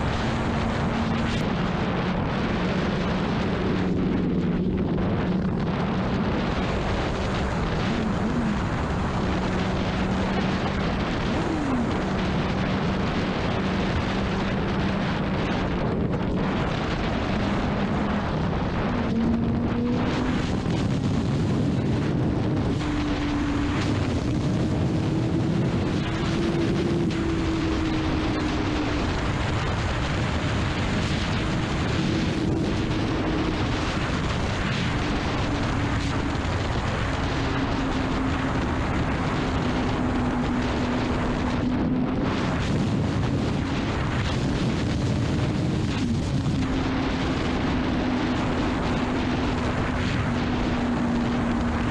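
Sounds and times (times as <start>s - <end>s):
motorcycle engine at high revs: 0.0s - 51.9s
wind rush on microphone: 0.0s - 51.9s.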